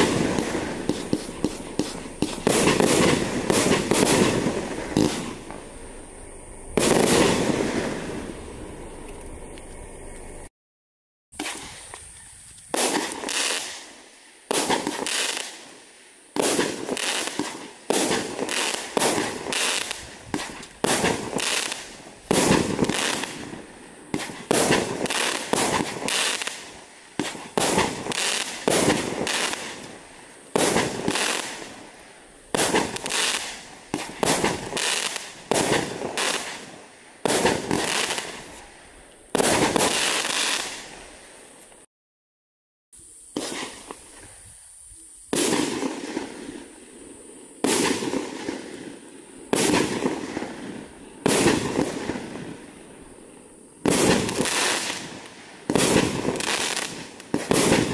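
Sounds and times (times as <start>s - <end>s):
fireworks firing with crackle: 0.0s - 10.5s, 11.4s - 41.9s, 43.0s - 44.6s, 45.2s - 57.9s.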